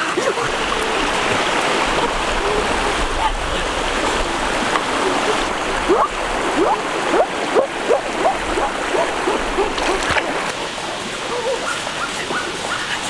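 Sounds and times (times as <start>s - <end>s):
stream rushing over cascade: 0.0s - 13.0s.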